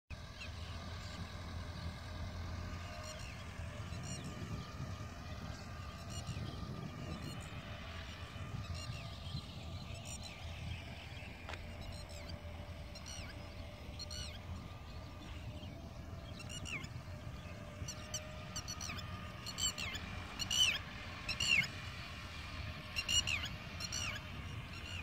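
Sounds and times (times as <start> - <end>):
birds chirping: 0.1 - 25.0
steady low rumble: 0.2 - 25.0.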